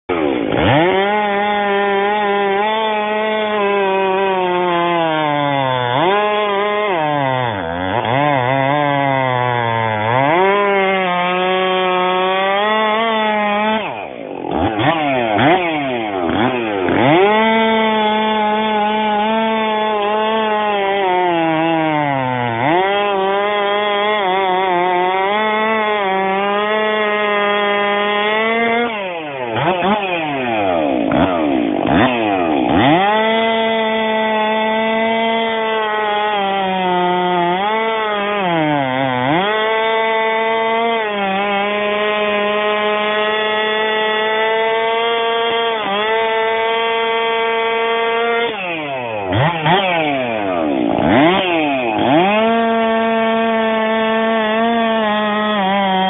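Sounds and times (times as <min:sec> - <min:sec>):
chainsaw sawing wood: 0:00.0 - 0:56.0.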